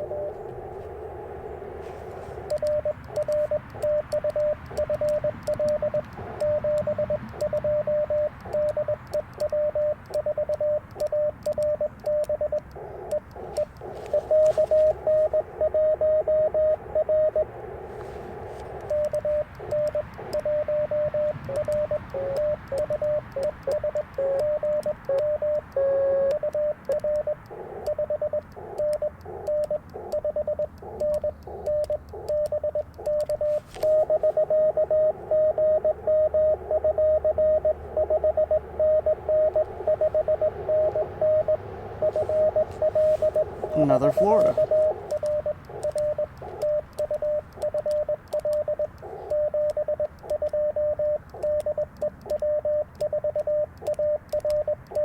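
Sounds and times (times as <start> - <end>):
radio receiver hiss: 0.0 - 36.8, 39.4 - 52.4
morse code tone: 0.0 - 55.0.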